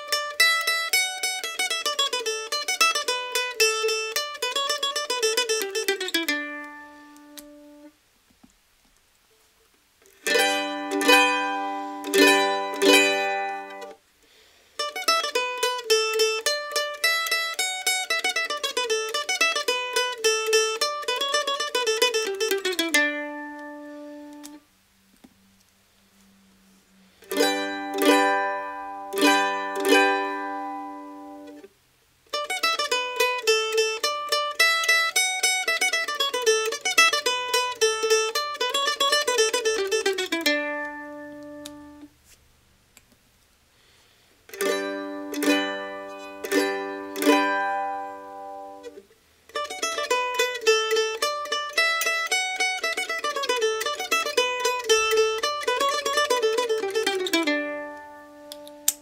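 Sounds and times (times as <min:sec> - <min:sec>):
mandolin strummed and picked: 0:00.0 - 0:08.0, 0:10.0 - 0:24.7, 0:27.1 - 0:42.2, 0:43.8 - 0:59.0.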